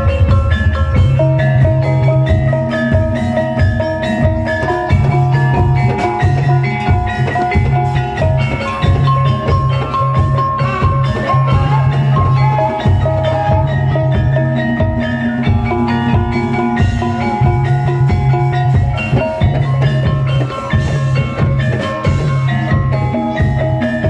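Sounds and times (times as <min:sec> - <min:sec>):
metallophones ringing melody: 0:00.0 - 0:24.0
steady drum beats: 0:00.0 - 0:24.0.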